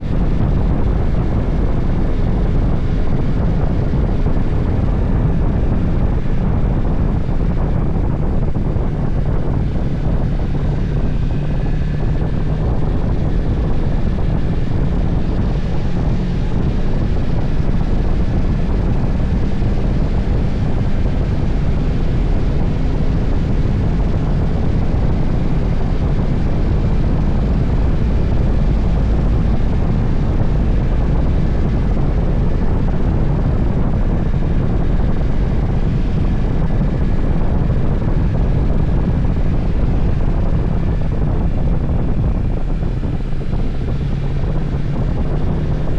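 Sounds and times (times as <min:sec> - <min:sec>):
motorcycle engine drone: 0:00.0 - 0:45.9
rush of air: 0:00.0 - 0:45.9.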